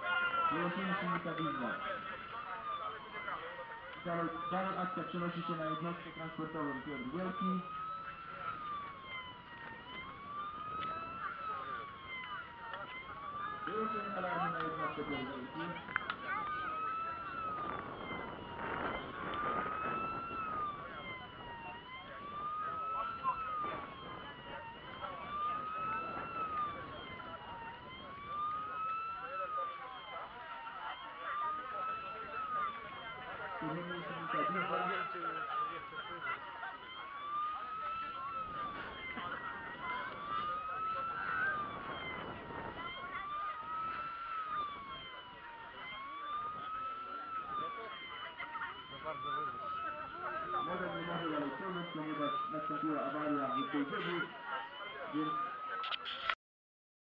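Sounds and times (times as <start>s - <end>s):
electronic siren wailing: 0.0s - 56.4s.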